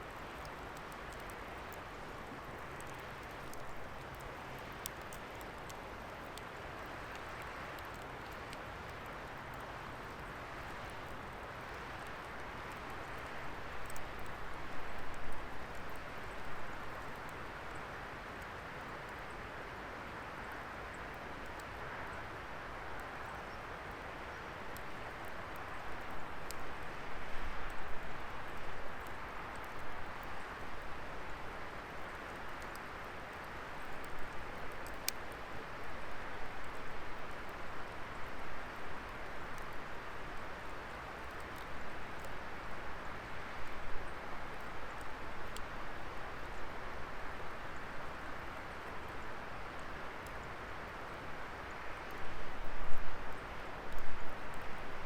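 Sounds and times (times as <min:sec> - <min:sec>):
fire crackles and pops: 0:00.0 - 0:19.3, 0:24.6 - 0:54.9.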